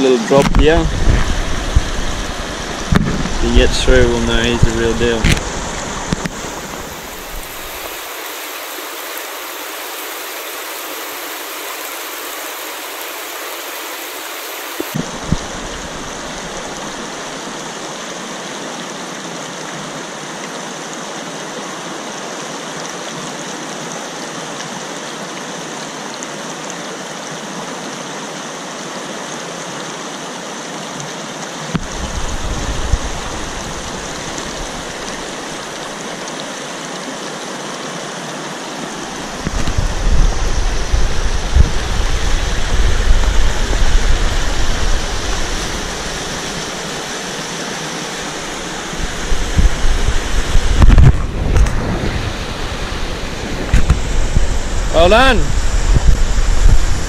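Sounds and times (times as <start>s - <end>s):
river water rushing over rapid: 0.0s - 57.0s.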